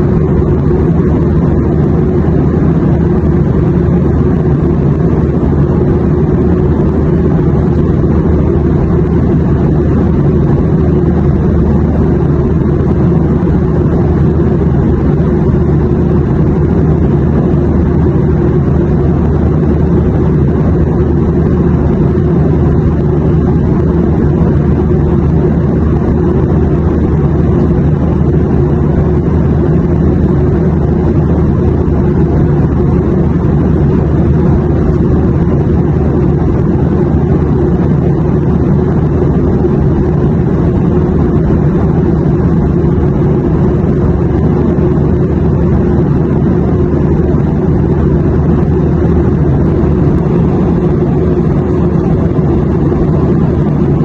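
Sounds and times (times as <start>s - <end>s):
airplane drone in flight: 0.0s - 54.0s.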